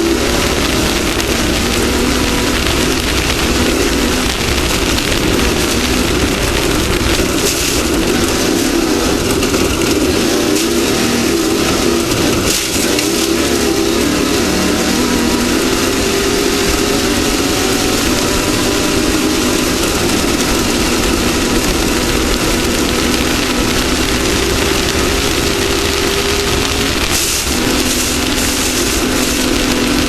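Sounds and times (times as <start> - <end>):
off-road vehicle engine running hard: 0.0 - 30.0
rough-terrain noise: 0.0 - 30.0
wind noise: 0.0 - 30.0.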